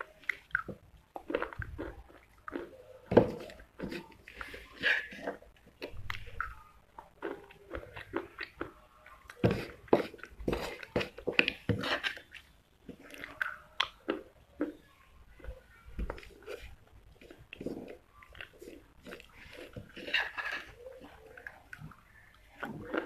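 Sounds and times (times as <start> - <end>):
chewing clay crunching: 0.0 - 15.4, 16.1 - 23.0.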